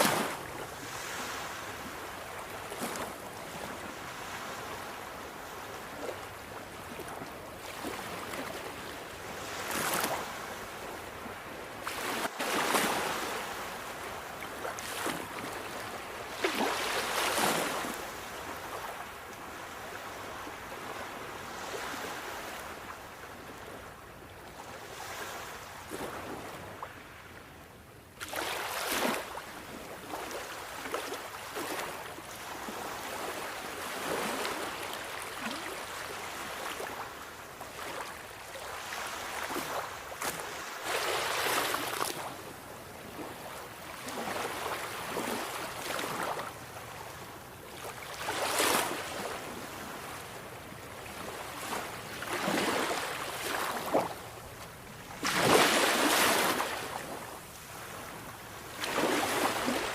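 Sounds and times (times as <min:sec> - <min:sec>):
sea waves breaking: 0:00.0 - 0:06.2, 0:07.6 - 0:22.7, 0:28.2 - 0:47.2, 0:47.8 - 0:59.9.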